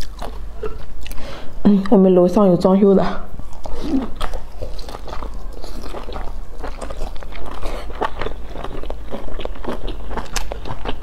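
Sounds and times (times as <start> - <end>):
chewing and crunching pastry: 0.0 - 1.4, 3.4 - 11.0.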